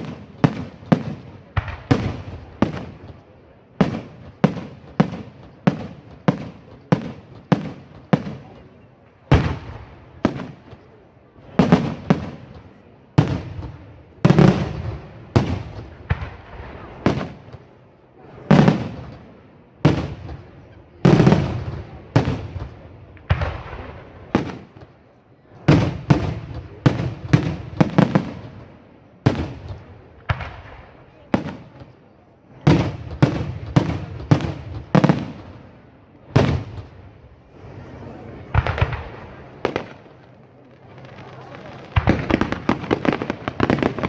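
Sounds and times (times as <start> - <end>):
fireworks bangs echoing: 0.0 - 37.7, 38.3 - 44.0.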